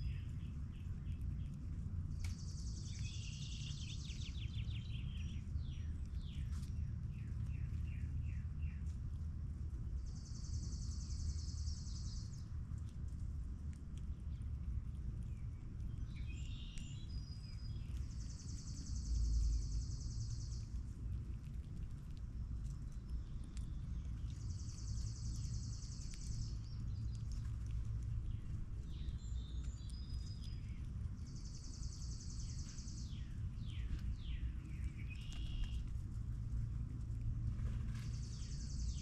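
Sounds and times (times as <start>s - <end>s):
squirrel eating clicks: 0.0s - 39.0s
steady low rumble: 0.0s - 39.0s.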